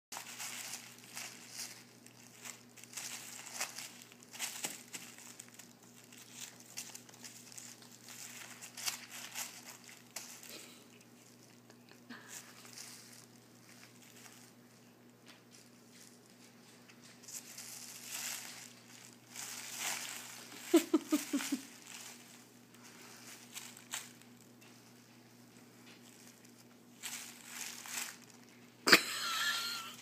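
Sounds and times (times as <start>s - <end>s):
tissue paper crinkling: 0.1s - 28.8s.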